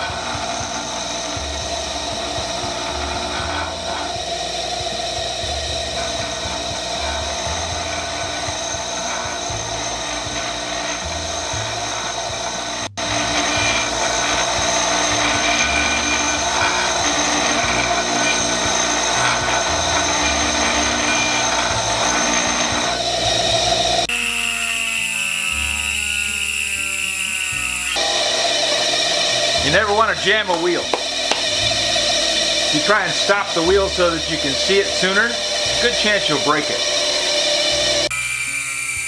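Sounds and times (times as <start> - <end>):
bench grinder wheel being dressed: 0.0 - 24.1, 25.1 - 38.2
music: 0.0 - 24.1, 24.7 - 39.0.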